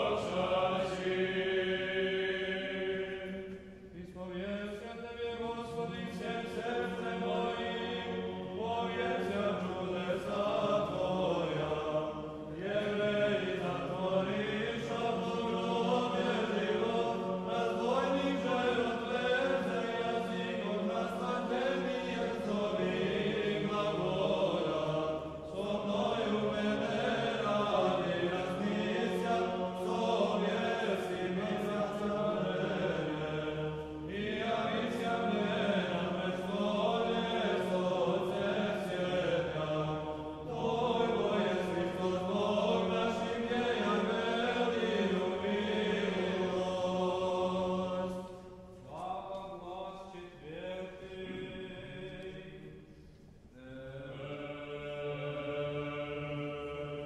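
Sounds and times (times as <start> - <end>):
choir chanting long held notes: 0.0 - 52.9, 53.5 - 57.0.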